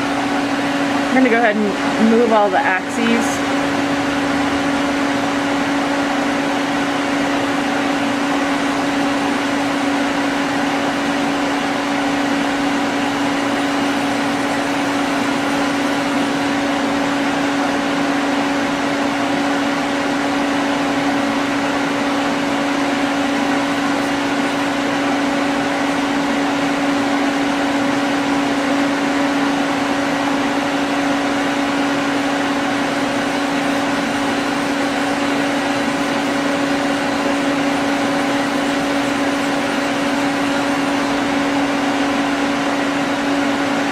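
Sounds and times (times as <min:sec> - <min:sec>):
lathe mechanical hum: 0:00.0 - 0:43.9.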